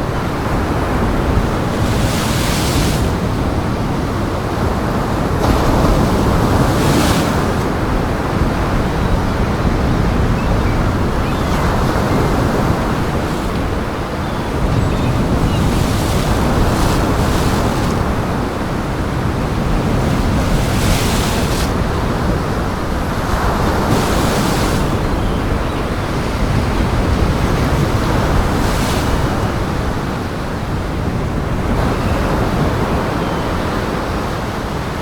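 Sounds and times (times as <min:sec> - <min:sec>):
big waves breaking: 0:00.0 - 0:35.0
strong wind: 0:00.0 - 0:35.0.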